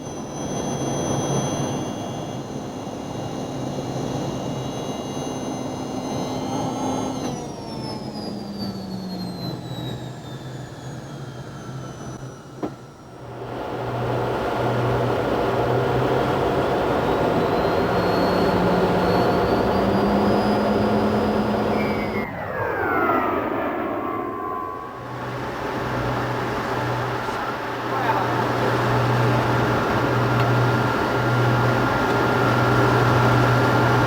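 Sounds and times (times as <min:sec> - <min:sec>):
jet engine whine and roar: 0:00.0 - 0:34.0.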